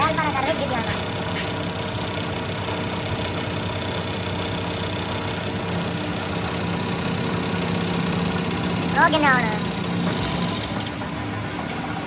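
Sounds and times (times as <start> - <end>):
motor-driven machine humming: 0.0 - 12.0.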